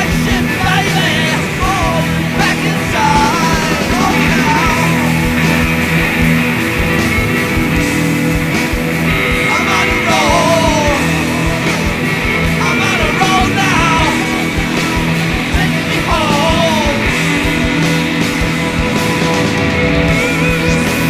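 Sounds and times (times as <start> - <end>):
rock band playing: 0.0 - 21.0
sliding lead guitar line: 0.0 - 21.0.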